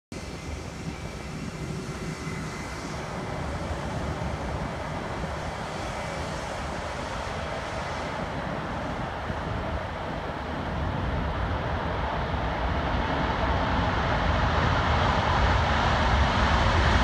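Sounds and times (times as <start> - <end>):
distant jet engines rumbling: 0.2 - 17.0.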